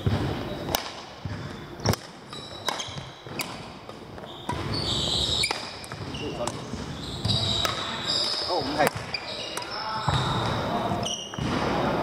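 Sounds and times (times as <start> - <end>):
racket hitting shuttlecock: 0.0 - 11.9
sports shoes squeaking: 0.0 - 11.9.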